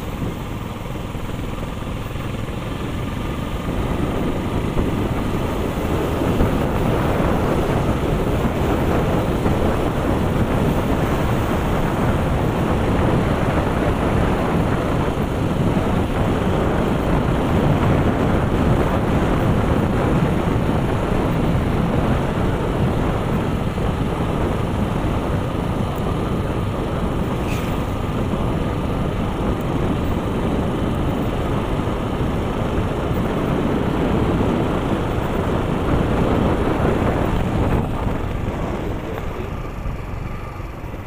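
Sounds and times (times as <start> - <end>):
motorcycle running: 0.0 - 41.0
wind rush on microphone: 0.0 - 41.0.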